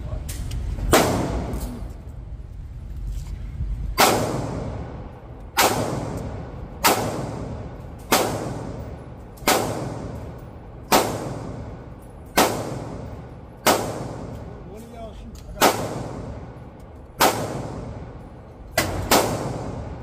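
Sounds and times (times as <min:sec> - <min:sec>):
gunshots echoing indoors: 0:00.8 - 0:02.0, 0:03.9 - 0:14.7, 0:15.4 - 0:20.0.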